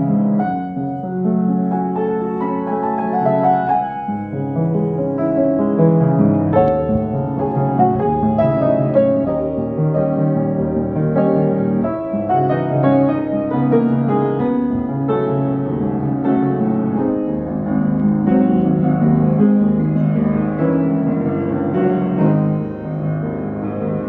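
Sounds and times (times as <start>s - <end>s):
solo piano piece: 0.0s - 24.0s.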